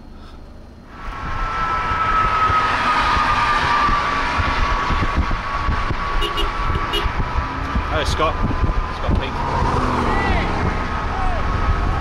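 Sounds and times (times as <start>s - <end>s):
high tyre whine: 0.0s - 12.0s
tyre and road noise: 0.0s - 12.0s.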